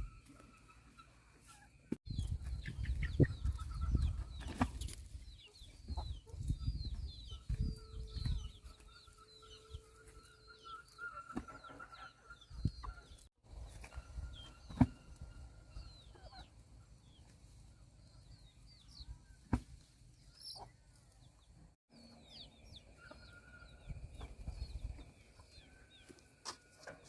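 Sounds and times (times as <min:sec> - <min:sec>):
chicks cheeping: 0:00.0 - 0:19.5, 0:20.2 - 0:26.8
chickens clucking: 0:00.0 - 0:27.0.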